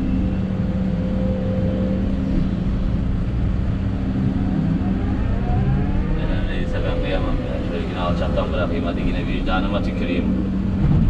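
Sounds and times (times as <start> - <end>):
excavator diesel engine: 0.0 - 11.0
faint rising whine: 0.0 - 11.0.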